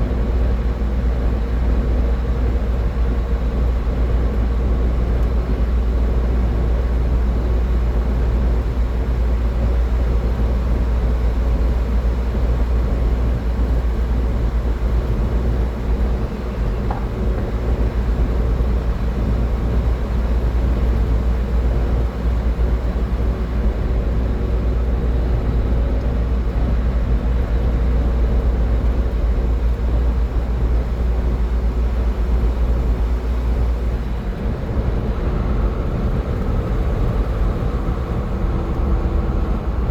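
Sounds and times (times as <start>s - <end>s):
car road noise at highway speed: 0.1s - 39.9s.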